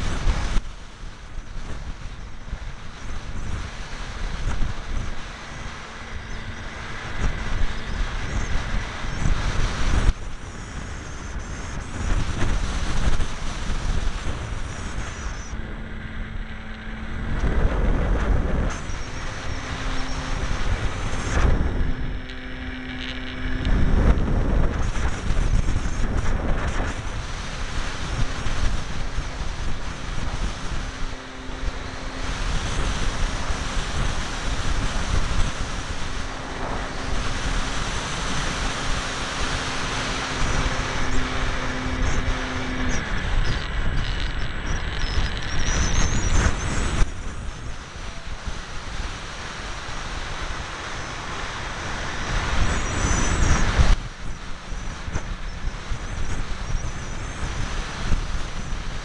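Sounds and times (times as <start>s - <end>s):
faint propeller motor hum: 0.0s - 59.0s
wind rushing over microphone: 0.0s - 59.0s.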